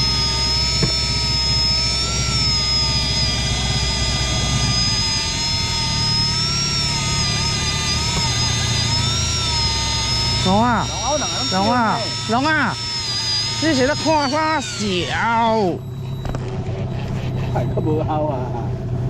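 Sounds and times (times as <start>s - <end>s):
boat motor running: 0.0s - 19.0s.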